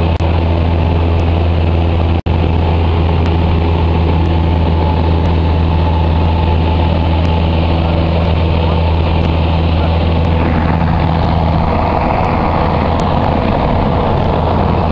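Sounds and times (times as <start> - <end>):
airplane engine droning: 0.0 - 14.9.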